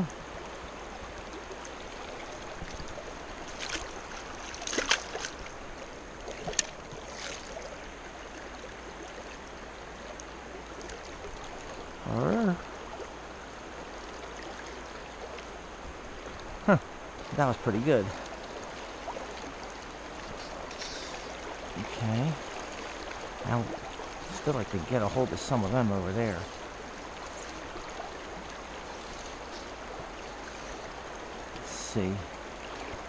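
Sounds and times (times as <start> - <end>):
creek water rushing: 0.0 - 33.0.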